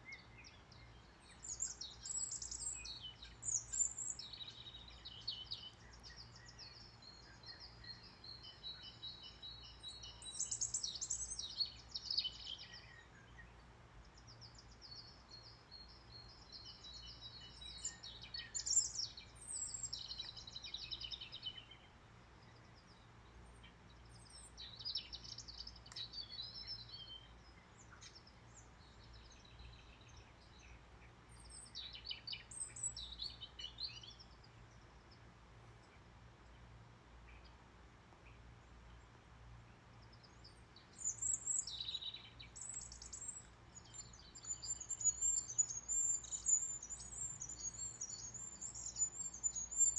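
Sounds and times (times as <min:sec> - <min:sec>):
faint steady hum: 0:00.0 - 0:49.9
small birds chirping: 0:00.0 - 0:49.9.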